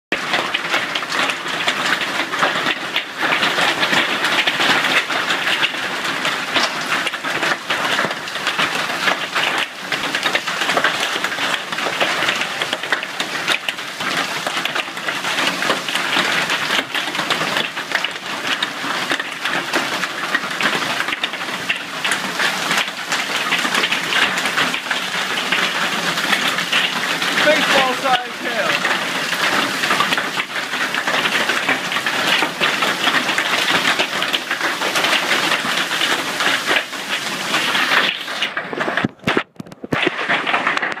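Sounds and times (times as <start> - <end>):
hail clattering: 0.1 - 41.0
heavy rain: 0.1 - 41.0.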